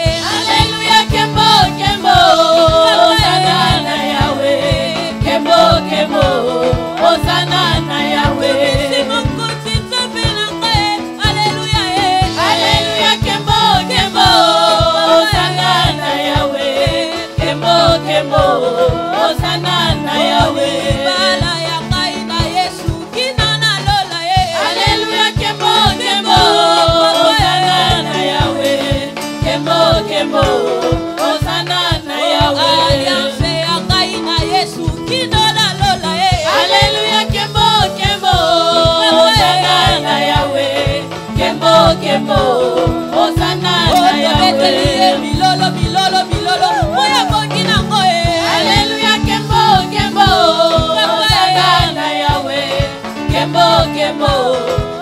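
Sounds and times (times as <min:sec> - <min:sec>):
steady drum beat: 0:00.0 - 0:55.0
voices singing: 0:00.0 - 0:55.0.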